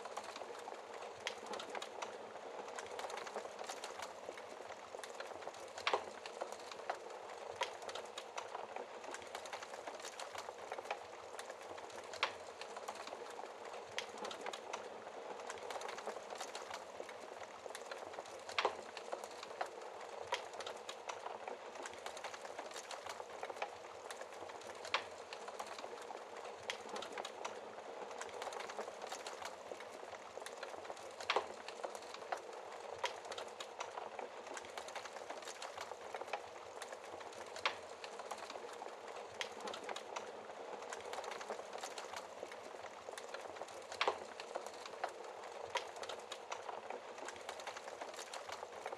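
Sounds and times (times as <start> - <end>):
campfire crackling: 0.0 - 48.9
fire popping: 0.0 - 48.9.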